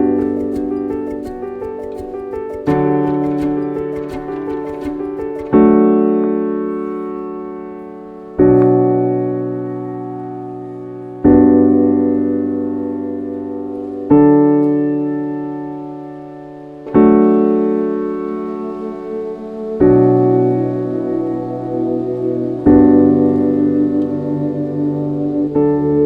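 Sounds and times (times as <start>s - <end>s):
slow piano chords: 0.0s - 26.0s.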